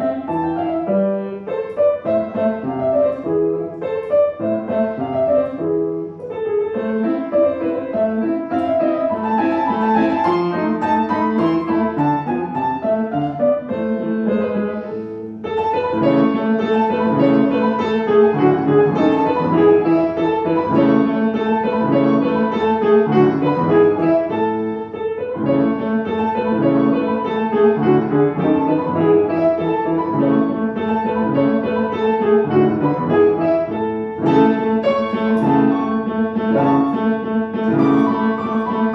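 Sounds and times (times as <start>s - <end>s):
piano playing classical piece: 0.0s - 38.9s.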